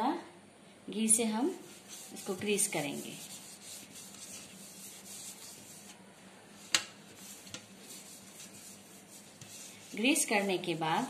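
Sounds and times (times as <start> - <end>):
hand rubbing metal tray: 1.4 - 6.0, 6.6 - 11.0.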